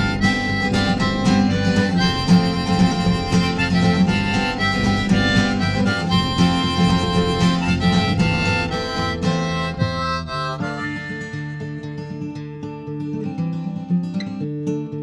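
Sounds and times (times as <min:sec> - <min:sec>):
harmonica melody: 0:00.0 - 0:12.3
guitar: 0:00.0 - 0:15.0.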